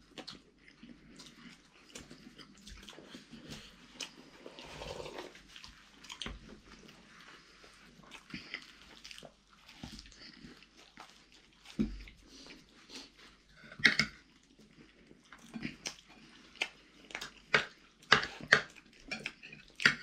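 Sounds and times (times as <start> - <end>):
biting and chewing food: 0.0 - 20.0.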